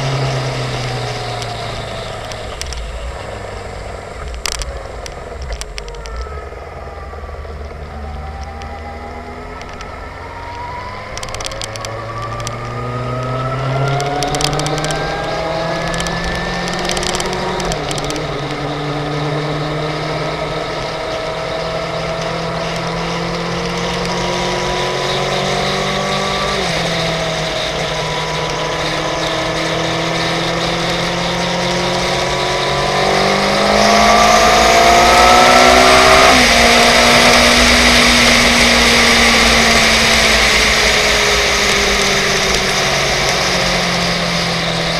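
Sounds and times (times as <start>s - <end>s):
motorcycle engine revving through gears: 0.0s - 44.9s.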